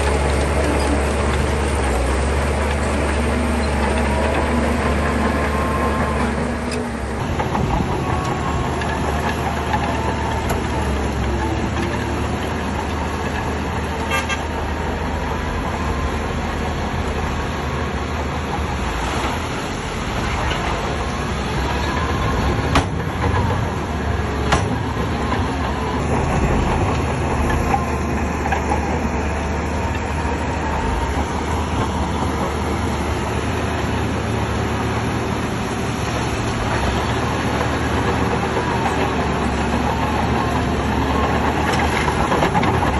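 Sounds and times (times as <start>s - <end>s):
bulldozer diesel engine: 0.0s - 42.9s.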